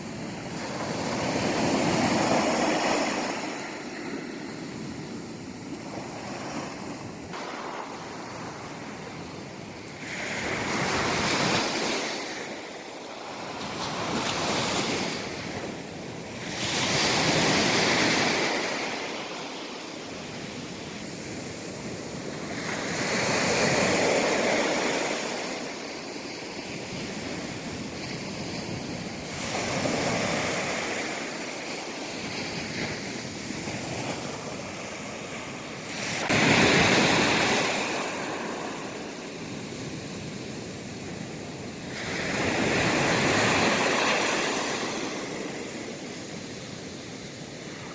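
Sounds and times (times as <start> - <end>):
waves breaking on shore: 0.0 - 47.9.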